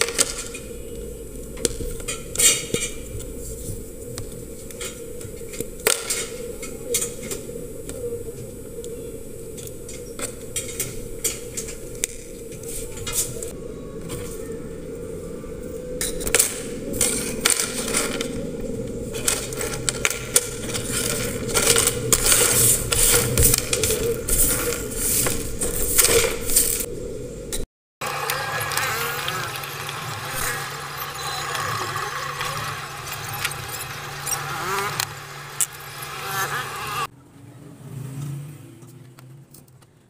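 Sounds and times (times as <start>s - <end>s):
steady low hum: 0.0s - 37.1s.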